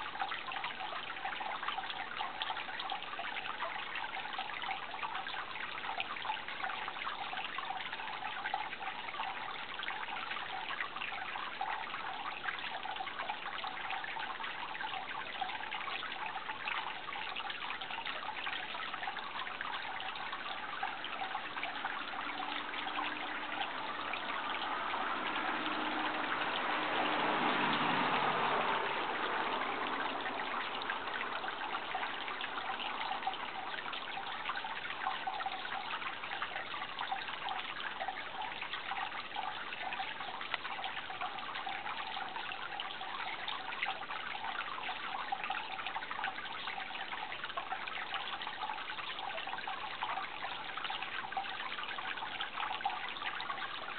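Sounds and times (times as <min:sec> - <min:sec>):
water trickling and babbling: 0:00.0 - 0:53.9.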